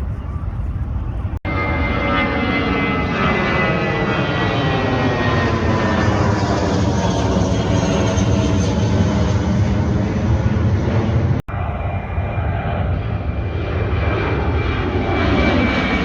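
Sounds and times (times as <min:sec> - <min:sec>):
airliner engine rumble and whine: 0:00.0 - 0:16.0.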